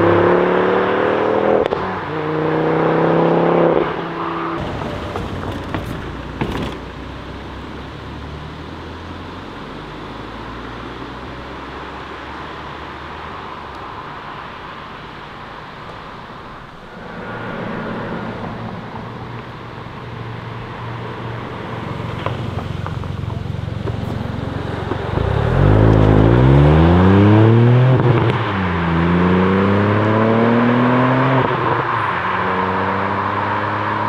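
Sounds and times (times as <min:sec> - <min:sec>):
car accelerating away: 0:00.0 - 0:14.0, 0:17.0 - 0:34.0
car engine running steadily: 0:01.3 - 0:29.1.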